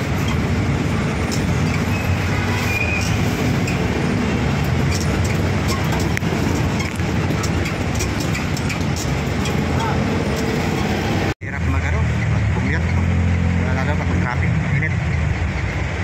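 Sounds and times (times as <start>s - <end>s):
diesel engine running: 0.0s - 16.0s
road noise: 0.0s - 16.0s.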